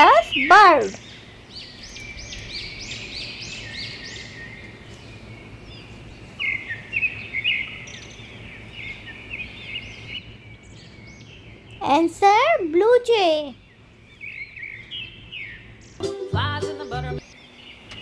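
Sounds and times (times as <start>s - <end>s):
bird chirping: 0.0s - 16.1s, 17.2s - 18.0s.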